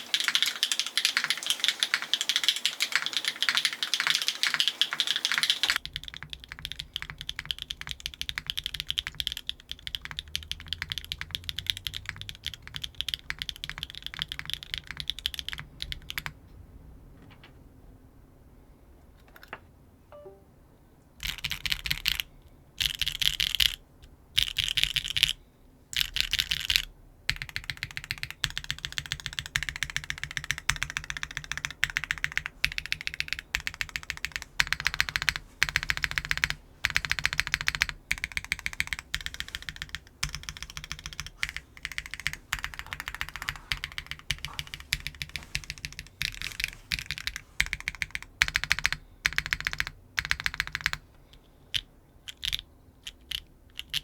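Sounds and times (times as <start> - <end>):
mechanical keyboard typing: 0.0 - 16.4, 21.2 - 23.8, 24.4 - 54.0.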